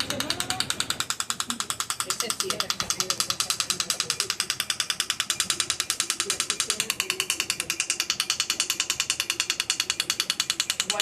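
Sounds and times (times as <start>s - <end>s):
laser rapid clicks: 0.0s - 11.0s.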